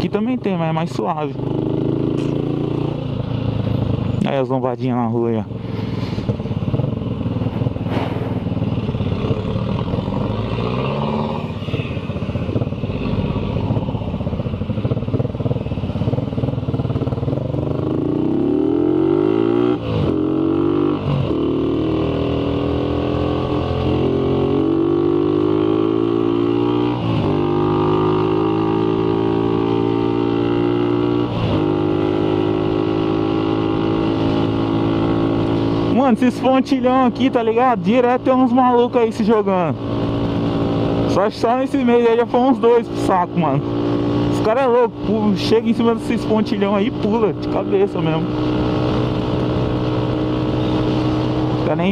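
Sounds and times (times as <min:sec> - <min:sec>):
motorcycle engine accelerating: 0:00.0 - 0:04.4, 0:05.4 - 0:51.9.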